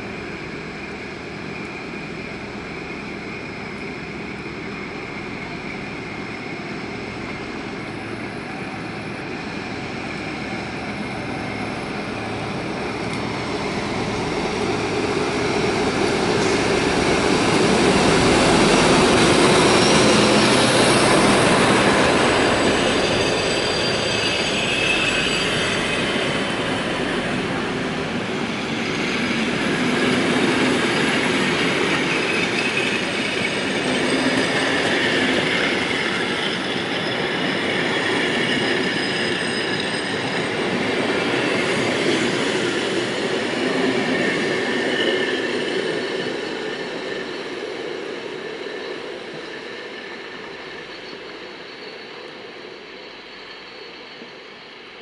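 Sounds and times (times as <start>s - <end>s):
diesel locomotive running: 0.0s - 55.0s
coach wheels squealing and clacking: 10.0s - 27.8s, 28.5s - 54.7s.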